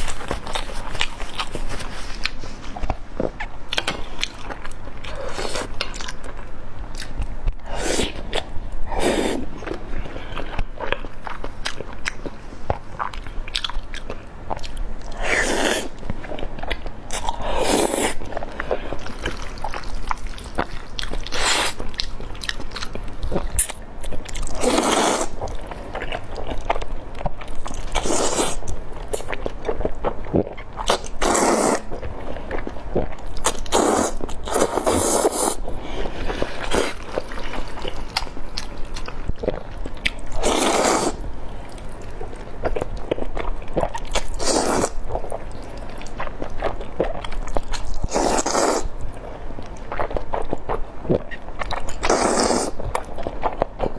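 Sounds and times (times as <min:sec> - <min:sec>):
chewing: 0:00.0 - 0:53.9.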